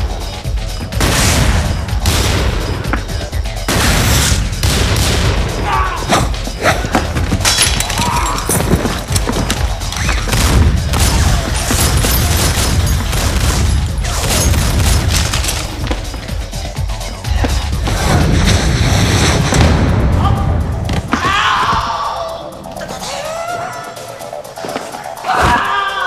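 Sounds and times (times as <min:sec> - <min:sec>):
music with deep bass: 0:00.0 - 0:26.0.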